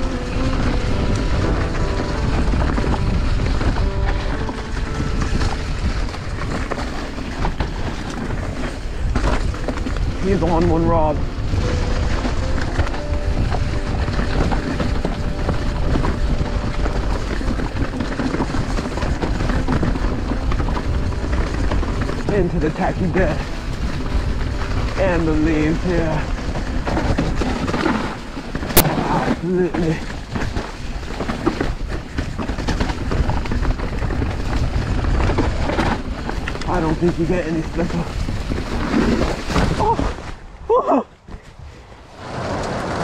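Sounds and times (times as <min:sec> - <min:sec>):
bike clattering over rough ground: 0:00.0 - 0:43.0
tyre and wind noise: 0:00.0 - 0:43.0.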